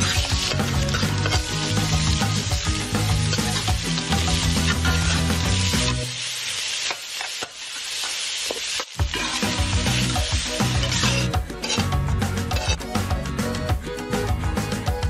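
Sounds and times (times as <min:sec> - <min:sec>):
background music: 0:00.0 - 0:06.3, 0:09.0 - 0:15.0
spatula stirring in a wok: 0:00.0 - 0:12.8
food sizzling in a wok: 0:00.0 - 0:13.1.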